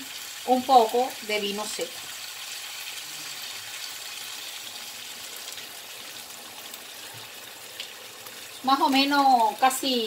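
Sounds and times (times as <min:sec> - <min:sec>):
pan sizzling: 0:00.0 - 0:10.0.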